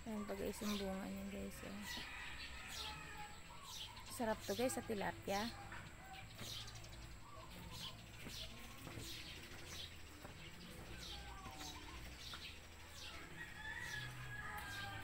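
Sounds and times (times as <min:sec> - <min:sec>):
bird chirping: 0:00.0 - 0:15.0
chickens clucking: 0:00.0 - 0:15.0.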